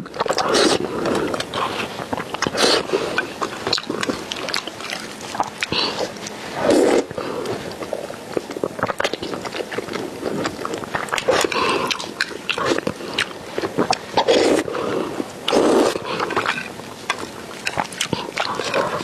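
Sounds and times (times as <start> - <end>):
wet chewing and lip smacking: 0.0 - 19.0
noodle slurping: 0.2 - 19.0.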